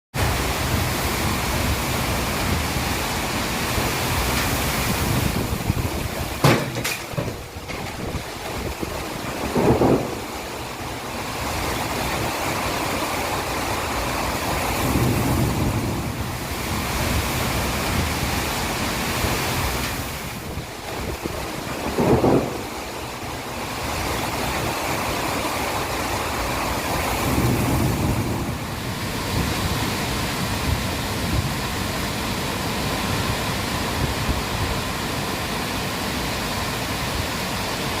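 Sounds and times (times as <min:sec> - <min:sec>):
strong wind gusts: 0:00.2 - 0:38.0
wind buffeting microphone: 0:00.3 - 0:35.3.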